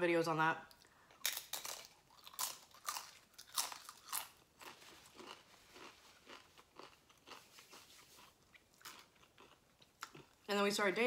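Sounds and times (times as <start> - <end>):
person chewing: 0.7 - 10.5
tortilla chip crunching: 1.2 - 10.4.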